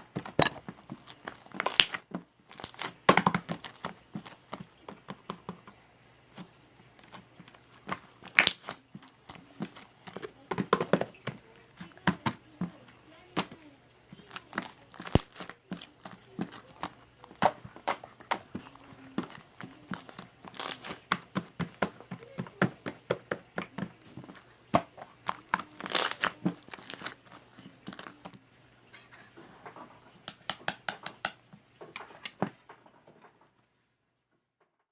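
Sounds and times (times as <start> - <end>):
slime squishing with bubbles popping: 0.0 - 28.4.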